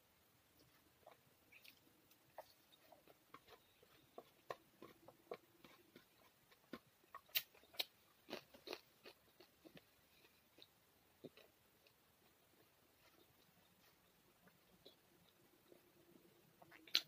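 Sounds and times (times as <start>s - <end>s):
person chewing food: 0.6s - 17.0s.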